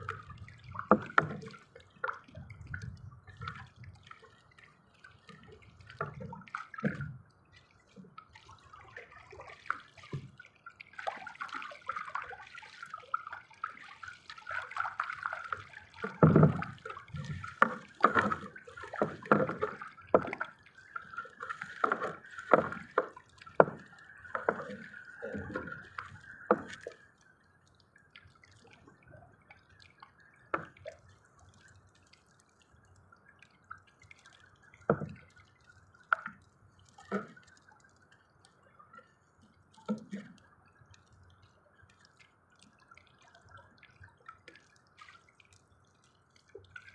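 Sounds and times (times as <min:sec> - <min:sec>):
water splashing and dripping: 0:00.0 - 0:46.9.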